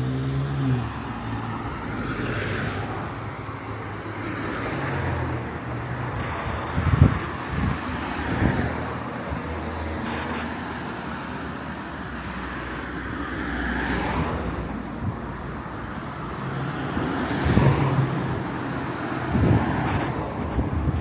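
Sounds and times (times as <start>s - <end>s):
cars driving past: 0.0s - 21.0s.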